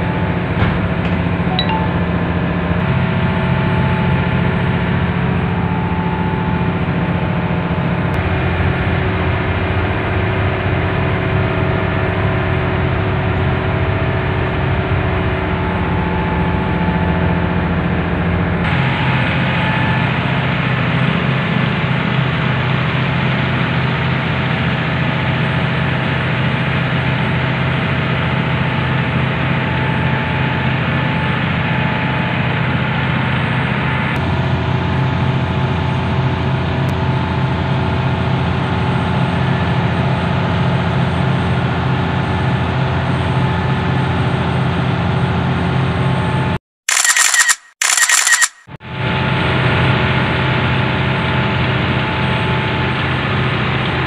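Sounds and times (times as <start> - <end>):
boat engine drone: 0.0 - 46.6, 48.8 - 54.0.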